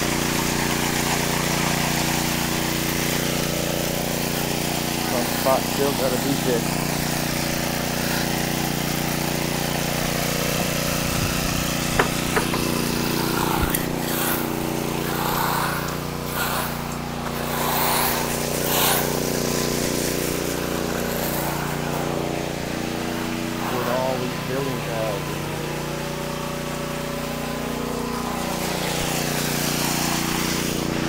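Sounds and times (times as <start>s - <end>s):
small engine running steadily: 0.0s - 31.0s.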